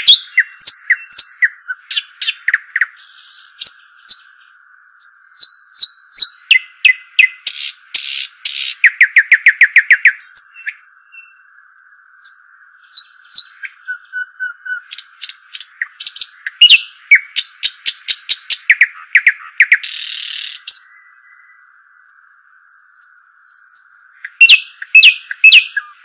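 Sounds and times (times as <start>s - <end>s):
nightingale singing: 0.0s - 26.0s.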